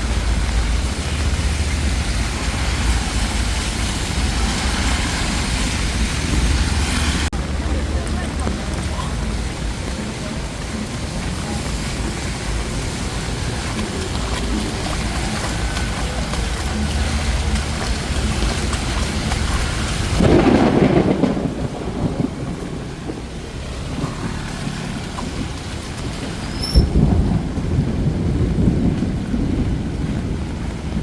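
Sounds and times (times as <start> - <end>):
heavy rain pouring: 0.0 - 31.0
thunder rumbling: 0.0 - 31.0.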